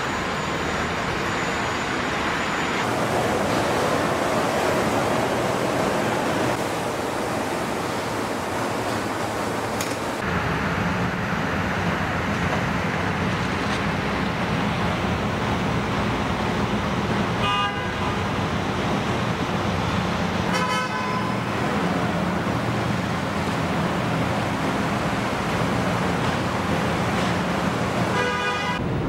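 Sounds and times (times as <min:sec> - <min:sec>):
factory floor din: 0:00.0 - 0:29.0.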